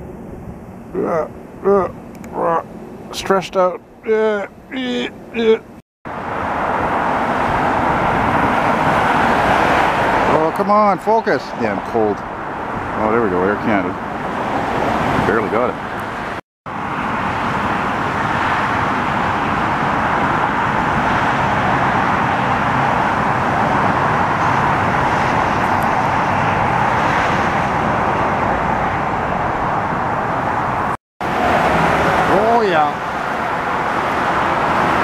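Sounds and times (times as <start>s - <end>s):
jet engines rushing: 6.2s - 35.0s.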